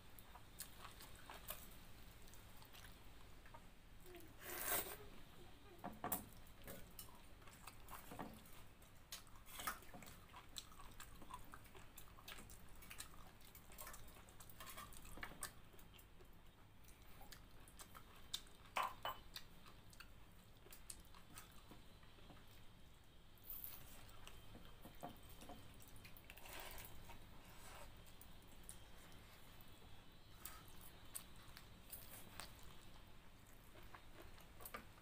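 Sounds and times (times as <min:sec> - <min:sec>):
person chewing and smacking: 0:00.2 - 0:03.7, 0:06.2 - 0:22.8, 0:23.5 - 0:35.0.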